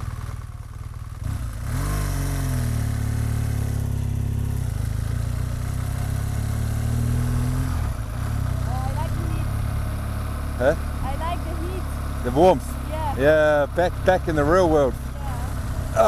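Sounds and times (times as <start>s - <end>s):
motorcycle engine pulling away: 0.0s - 16.0s.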